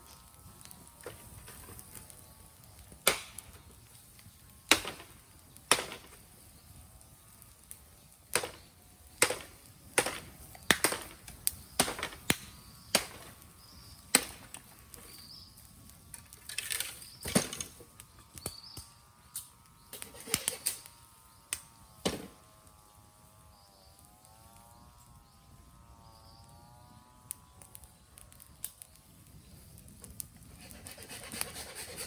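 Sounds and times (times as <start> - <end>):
bamboo fire crackling and popping: 0.0 - 32.0.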